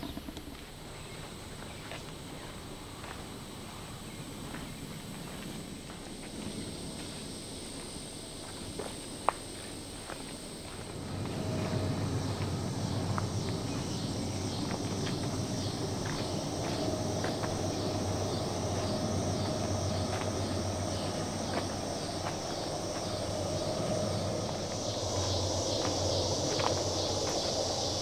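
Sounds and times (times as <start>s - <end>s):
insects calling in pulsing chorus: 0.0s - 28.0s
low steady rumble: 0.2s - 28.0s.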